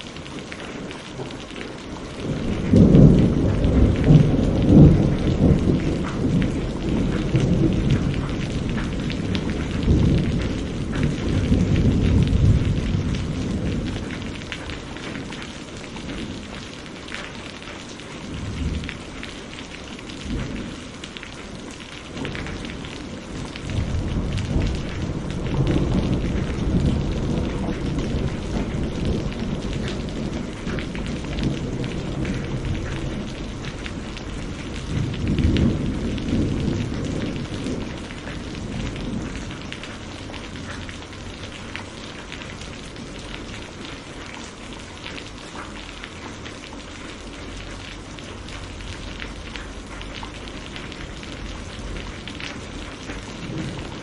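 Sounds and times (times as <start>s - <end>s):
rain pattering: 0.0s - 54.0s
rolling thunder rumbling: 0.8s - 44.8s, 47.5s - 54.0s.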